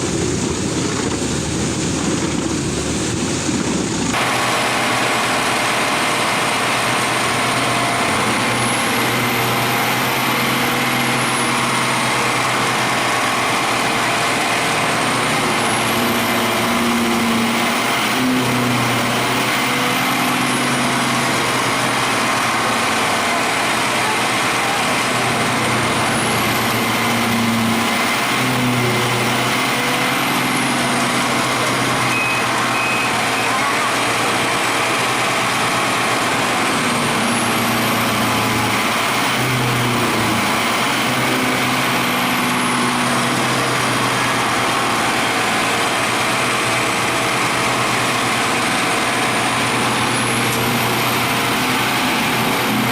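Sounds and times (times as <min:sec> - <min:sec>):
high whine: 0:00.0 - 0:52.9
wood chipper running: 0:00.0 - 0:52.9.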